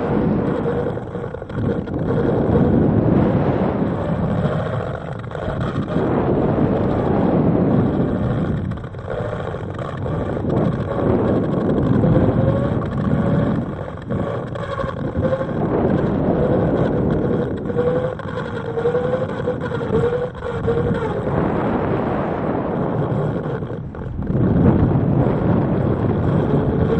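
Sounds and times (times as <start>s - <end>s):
wind buffeting microphones: 0.0s - 26.9s.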